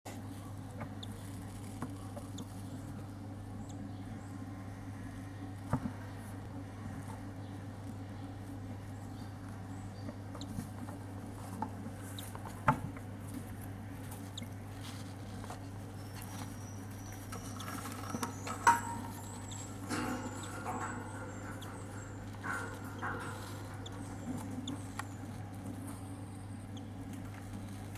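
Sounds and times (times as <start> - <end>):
steady low hum: 0.1 - 27.9
bird chick peeping: 0.2 - 27.9.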